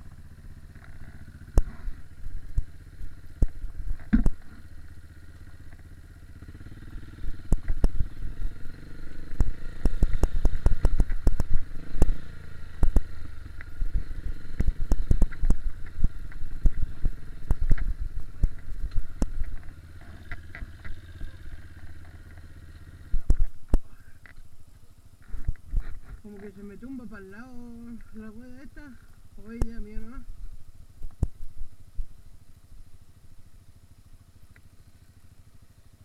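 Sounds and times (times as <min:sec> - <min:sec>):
dirt bike engine under throttle: 0:00.0 - 0:36.0.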